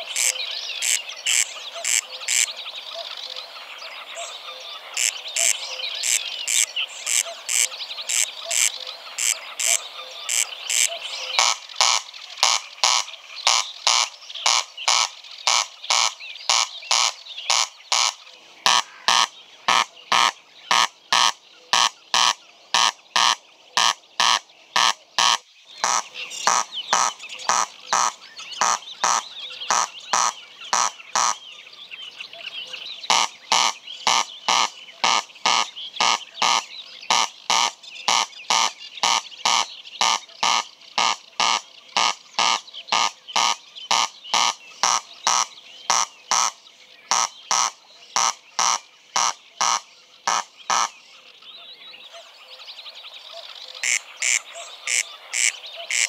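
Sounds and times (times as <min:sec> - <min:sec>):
bird calling dry rasping notes: 0:00.0 - 0:03.1, 0:04.2 - 0:51.0, 0:53.7 - 0:56.0.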